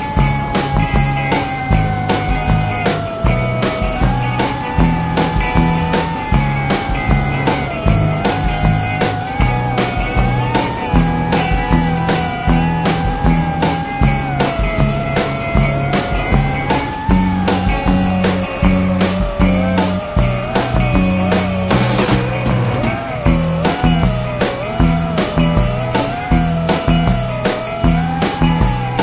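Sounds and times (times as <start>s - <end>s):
rock music: 0.0s - 29.0s.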